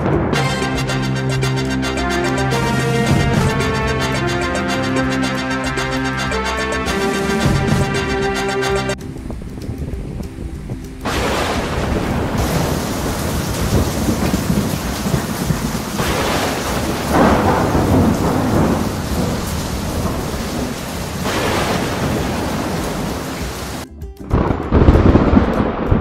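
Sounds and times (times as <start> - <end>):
rolling thunder: 0.0 - 1.6, 2.2 - 6.0, 9.1 - 26.0
heavy rain: 0.0 - 23.8, 24.4 - 26.0.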